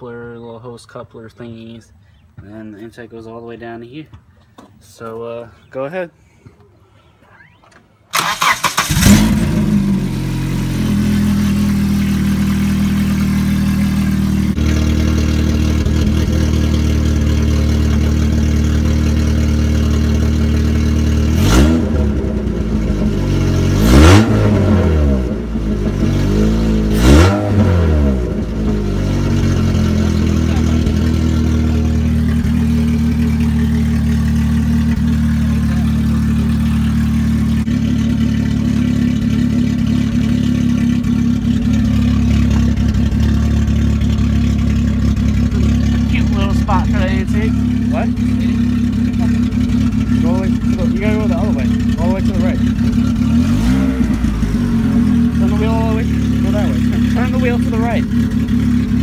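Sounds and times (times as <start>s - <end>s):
car engine idling: 8.2s - 59.0s
engine revving: 8.2s - 59.0s.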